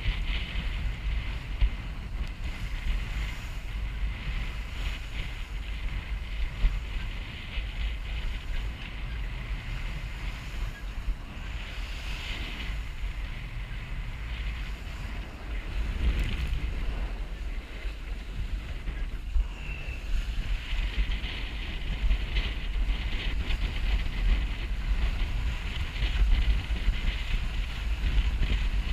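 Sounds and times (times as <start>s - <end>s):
water rushing along a hull: 0.0s - 28.9s
wind buffeting microphone: 0.0s - 28.9s.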